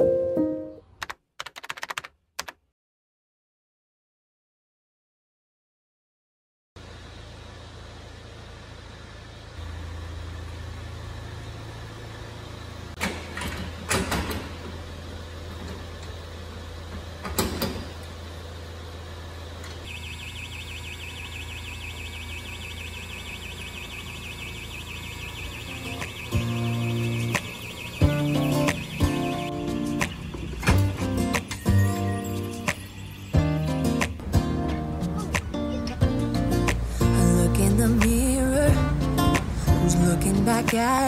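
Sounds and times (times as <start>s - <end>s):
vehicle engine humming: 6.8s - 41.0s.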